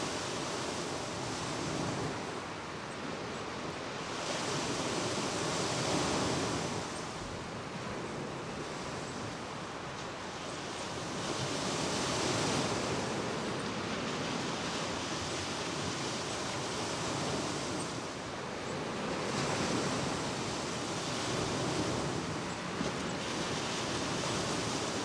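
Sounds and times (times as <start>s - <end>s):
lake waves washing on shore: 0.0s - 25.0s.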